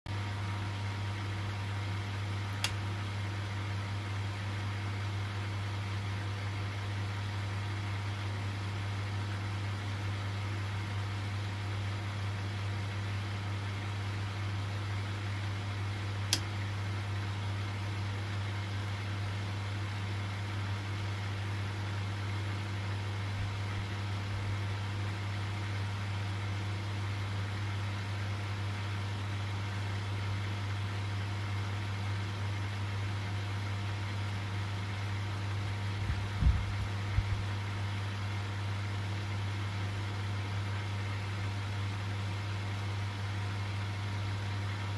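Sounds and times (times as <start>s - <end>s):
cooling fan whirring: 0.1s - 44.9s
low electrical hum: 0.1s - 44.9s.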